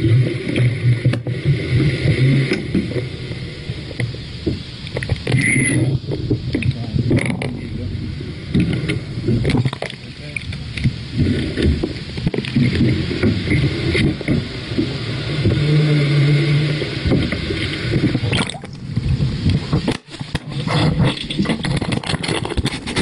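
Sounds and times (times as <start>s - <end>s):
muffled underwater rumble: 0.0s - 23.0s.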